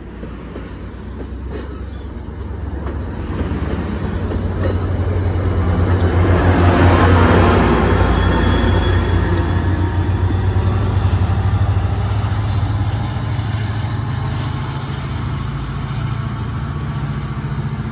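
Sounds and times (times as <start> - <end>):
diesel locomotive engine drone: 0.0 - 17.9
train rolling noise: 0.0 - 17.9.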